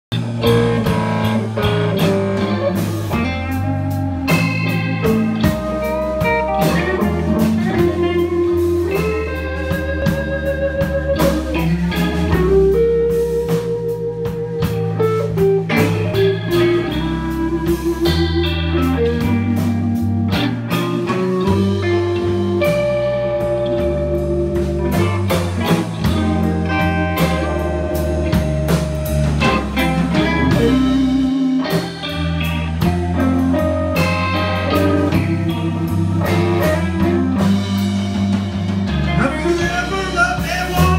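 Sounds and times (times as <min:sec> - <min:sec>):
blues band playing: 0:00.1 - 0:40.9
electric guitar lead: 0:00.1 - 0:40.9.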